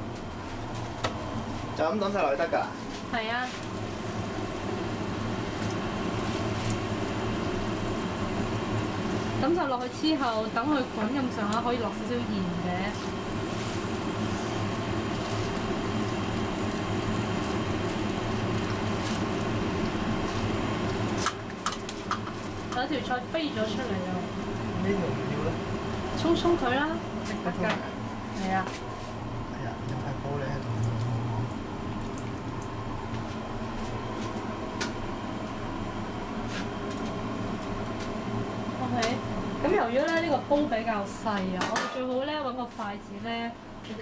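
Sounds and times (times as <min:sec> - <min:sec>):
extractor fan whirring: 0:00.0 - 0:44.0
low mechanical hum: 0:00.0 - 0:44.0.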